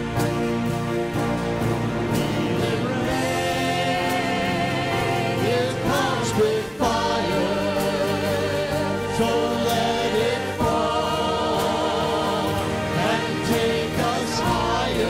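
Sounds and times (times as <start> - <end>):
acoustic guitar: 0.0 - 15.0
drums: 0.0 - 15.0
keyboard: 0.0 - 15.0
singers singing a hymn: 0.0 - 15.0.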